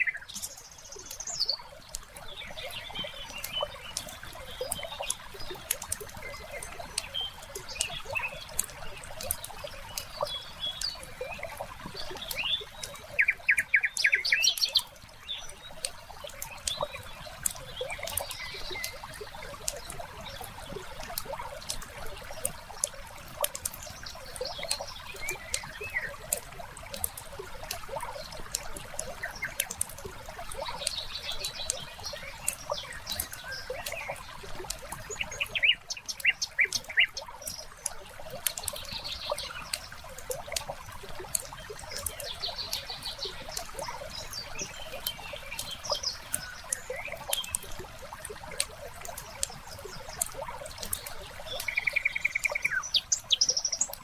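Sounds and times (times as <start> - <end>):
birds chirping: 0.0 - 54.0
wood fire crackling and popping: 3.0 - 10.1, 14.6 - 35.2, 35.8 - 51.7.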